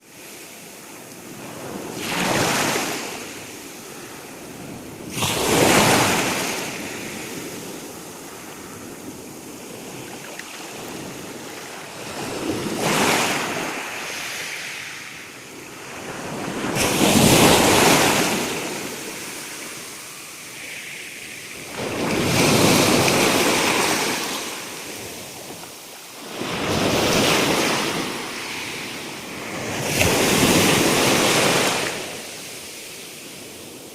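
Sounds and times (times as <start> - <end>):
sea waves breaking on shore: 0.1 - 33.9.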